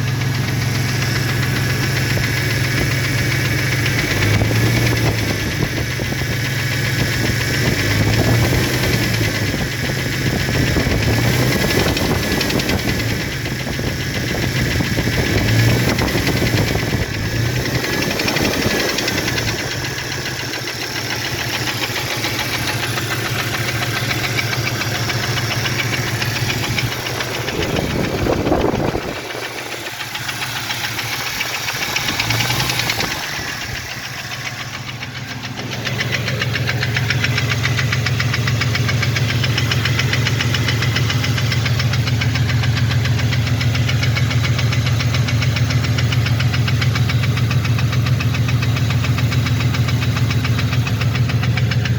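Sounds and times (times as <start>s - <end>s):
engine knocking: 0.0s - 51.9s.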